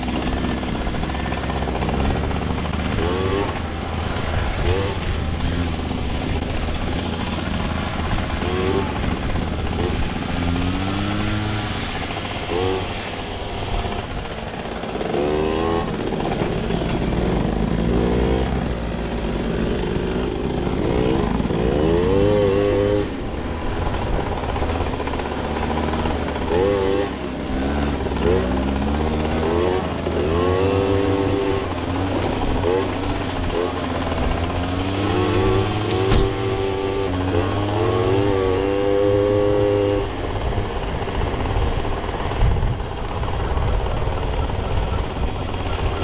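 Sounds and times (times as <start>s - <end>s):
steady low drone: 0.0s - 46.0s
two-stroke moped engines revving: 0.0s - 46.0s.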